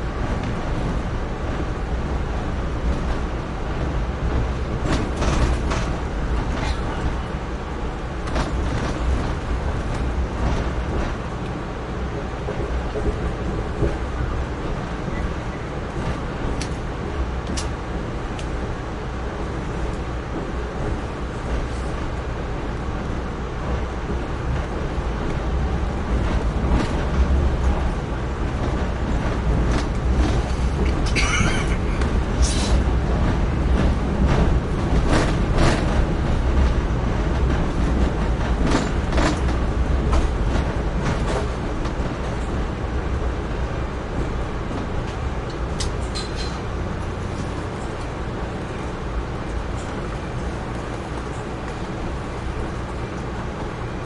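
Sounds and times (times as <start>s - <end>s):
train rumbling: 0.0s - 54.0s
wheels clanking over rail joints: 0.1s - 18.6s, 19.5s - 54.0s.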